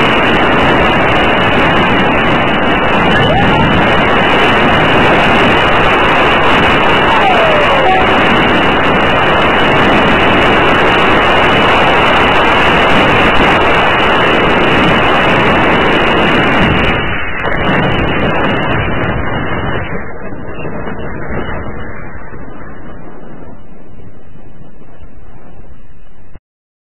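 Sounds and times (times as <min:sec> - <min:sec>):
rough wind and motor noise: 0:00.0 - 0:26.4.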